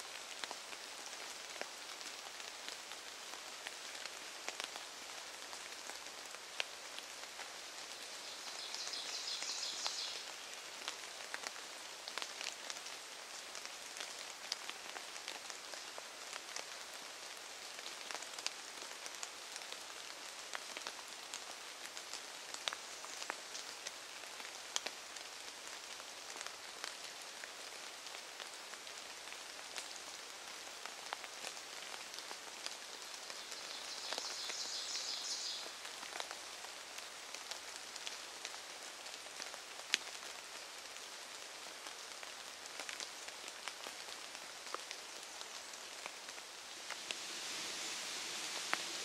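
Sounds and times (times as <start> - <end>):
light rain on leaves: 0.0 - 49.0.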